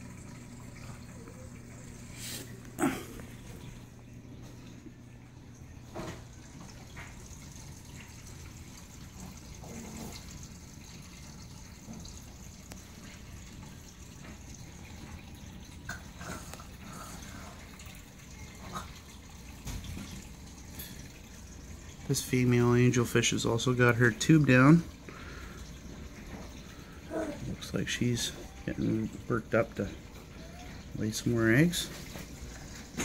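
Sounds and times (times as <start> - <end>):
water trickling and dripping: 0.0 - 33.0.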